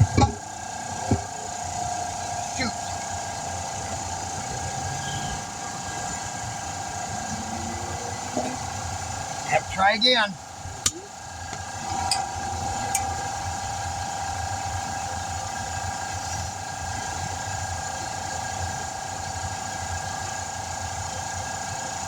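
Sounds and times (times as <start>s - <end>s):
motor whining and humming: 0.0s - 22.0s.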